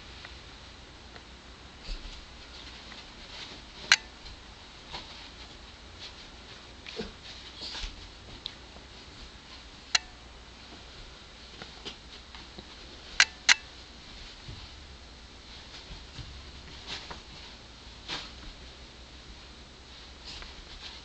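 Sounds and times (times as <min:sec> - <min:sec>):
dog scuffling on carpet: 0:01.8 - 0:09.9, 0:10.5 - 0:21.0.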